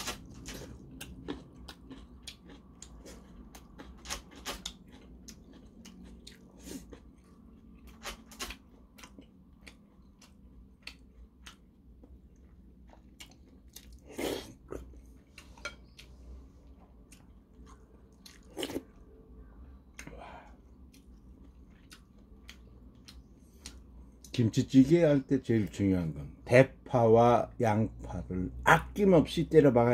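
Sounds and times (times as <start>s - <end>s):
person chewing food: 0.0s - 24.4s.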